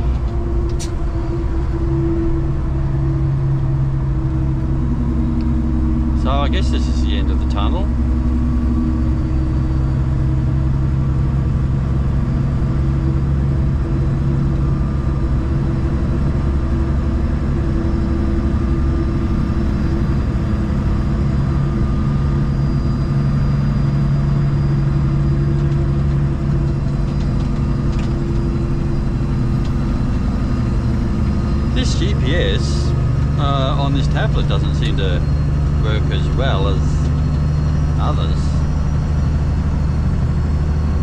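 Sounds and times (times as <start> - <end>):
truck diesel engine droning: 0.0 - 41.0.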